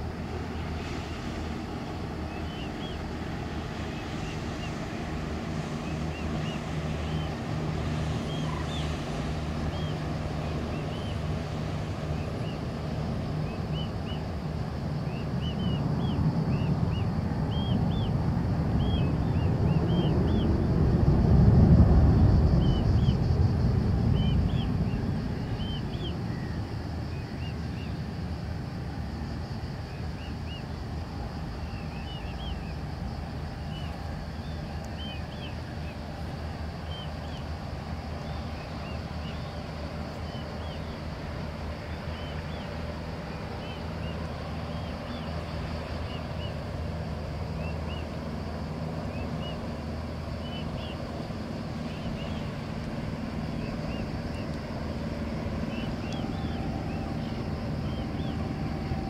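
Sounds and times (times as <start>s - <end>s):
distant jet engine rumble: 0.0s - 59.0s.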